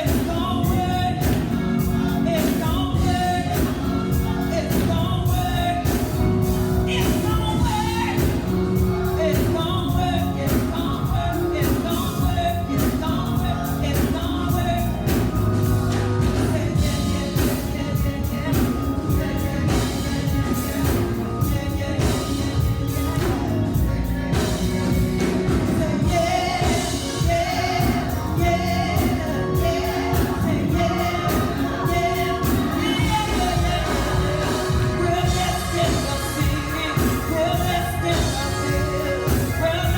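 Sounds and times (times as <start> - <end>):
band playing: 0.0 - 39.9
gospel voices singing: 0.0 - 39.9
steady drum beat: 0.0 - 39.9.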